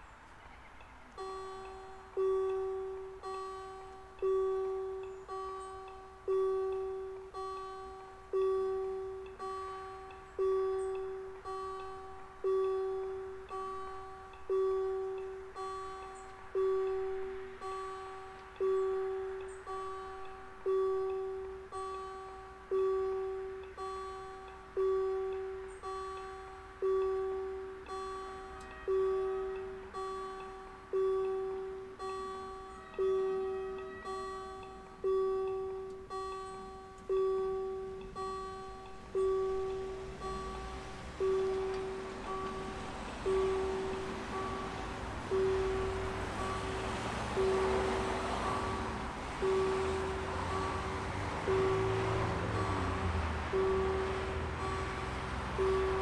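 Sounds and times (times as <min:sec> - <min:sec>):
crossing warning bell ringing: 0:00.0 - 0:56.0.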